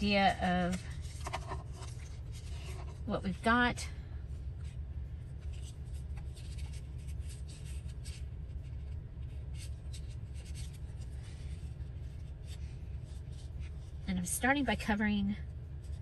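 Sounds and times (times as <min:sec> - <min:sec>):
paper rustling and scratching: 0:00.0 - 0:03.5, 0:04.6 - 0:14.9
steady low hum: 0:00.0 - 0:16.0.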